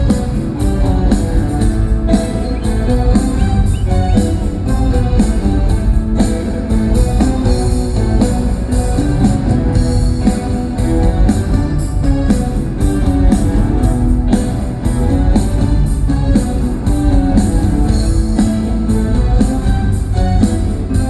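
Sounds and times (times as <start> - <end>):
live rock band instrumental: 0.0 - 21.0.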